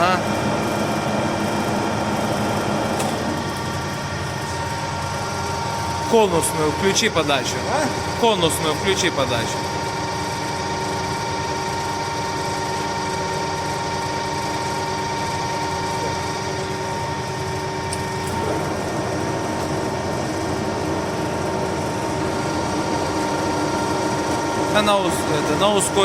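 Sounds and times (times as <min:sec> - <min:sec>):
lathe gearbox mechanical whine: 0:00.0 - 0:26.0.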